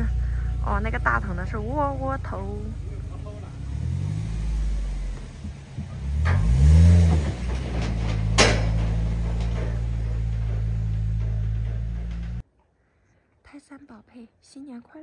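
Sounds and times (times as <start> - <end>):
truck engine revving and driving off: 0.0 - 12.4.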